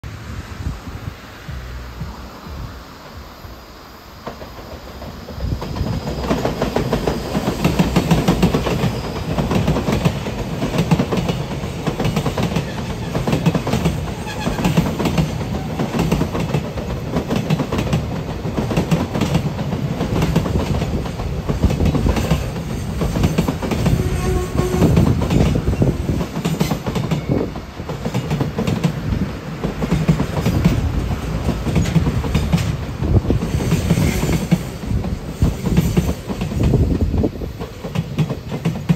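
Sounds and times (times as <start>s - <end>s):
freight train wheels clicking: 4.1s - 38.9s.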